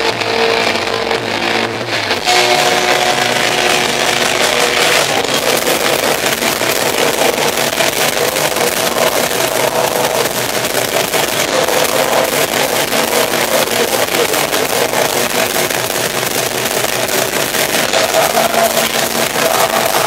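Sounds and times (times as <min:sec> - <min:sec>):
distorted electric guitar: 0:00.0 - 0:20.0
fast drumming: 0:00.0 - 0:20.0.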